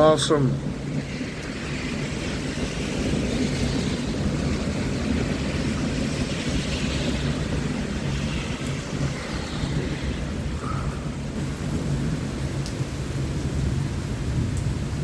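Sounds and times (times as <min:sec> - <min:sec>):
low thunder rumble: 0:00.0 - 0:15.0
rain: 0:00.0 - 0:15.0
wind: 0:00.0 - 0:15.0.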